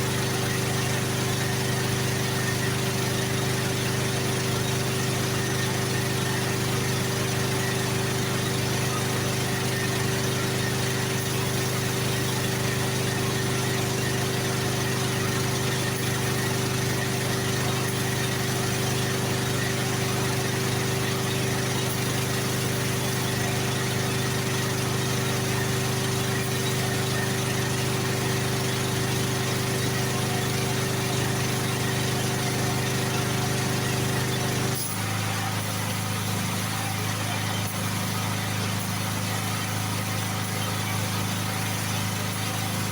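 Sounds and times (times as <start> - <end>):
compressor motor hum: 0.0 - 42.9.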